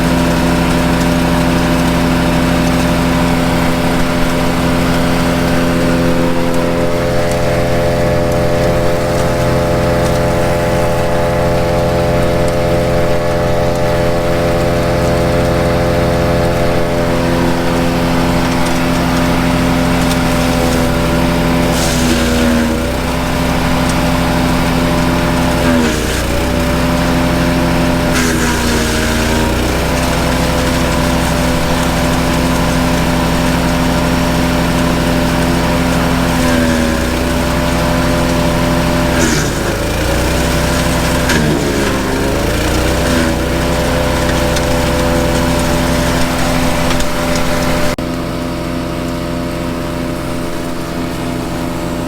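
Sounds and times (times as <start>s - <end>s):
branches crackling in chipper: 0.0s - 52.0s
wood chipper engine running: 0.0s - 52.0s.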